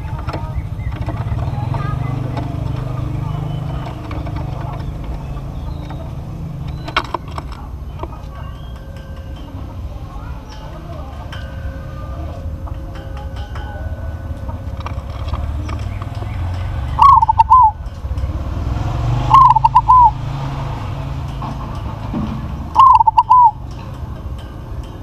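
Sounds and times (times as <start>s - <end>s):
dove cooing: 0.0s - 18.4s, 19.2s - 20.3s, 22.7s - 24.4s.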